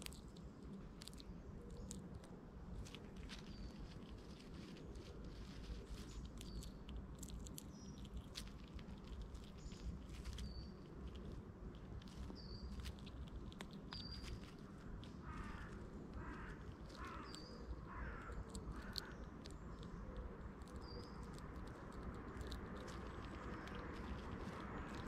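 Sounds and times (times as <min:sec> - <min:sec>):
squirrel chewing food: 0:00.0 - 0:25.0.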